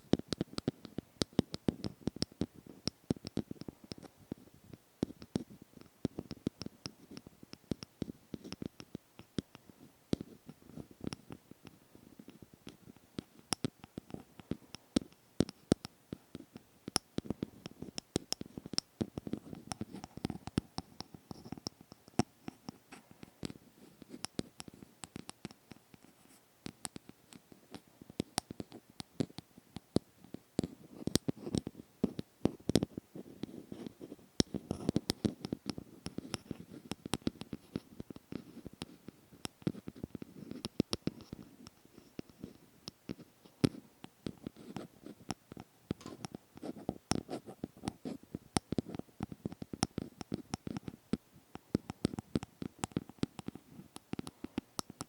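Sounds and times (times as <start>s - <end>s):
close scratching and tapping: 0.1s - 55.0s.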